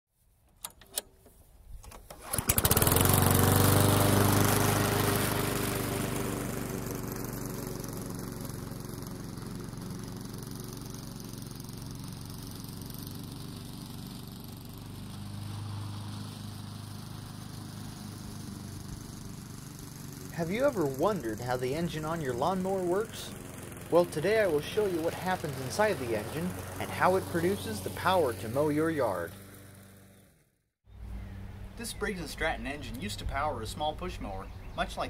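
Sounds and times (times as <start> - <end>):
lawn mower engine running: 0.6 - 30.4.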